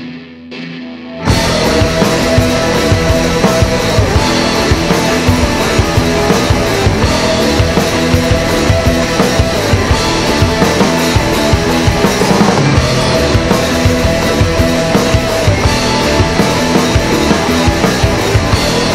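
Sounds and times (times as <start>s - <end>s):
punk rock band playing: 0.0s - 18.9s.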